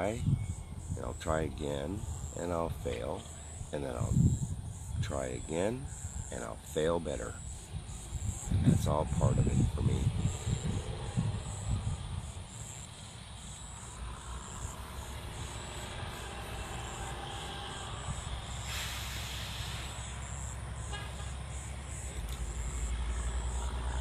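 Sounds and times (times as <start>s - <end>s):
steady low rumble: 0.0s - 20.9s
insects chirping: 0.0s - 24.0s.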